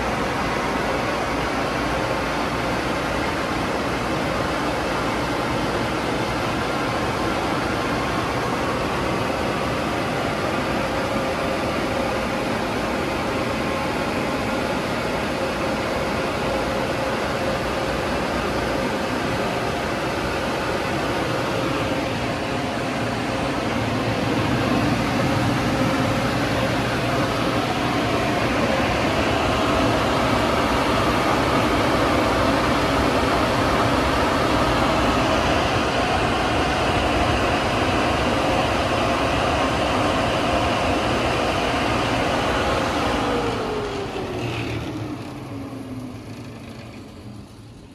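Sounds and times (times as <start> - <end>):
car wash machine rushing: 0.0 - 47.9.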